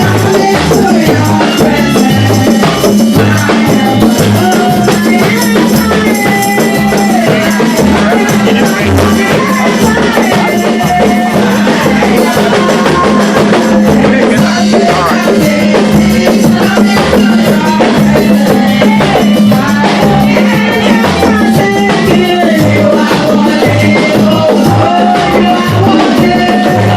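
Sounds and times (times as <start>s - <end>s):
drum kit beating: 0.0s - 26.9s
live band music: 0.0s - 26.9s
people singing: 0.0s - 26.9s.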